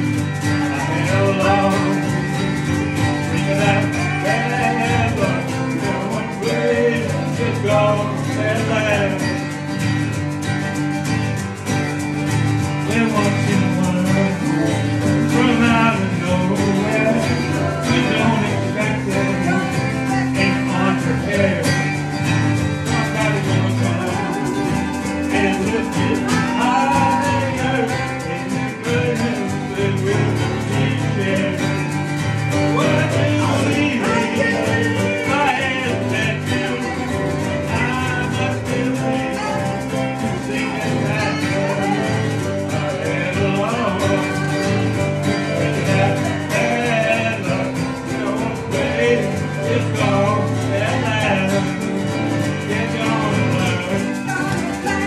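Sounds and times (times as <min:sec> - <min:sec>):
people singing: 0:00.0 - 0:09.7, 0:12.6 - 0:55.0
digital piano: 0:00.0 - 0:55.0
strummed acoustic guitar: 0:00.0 - 0:55.0.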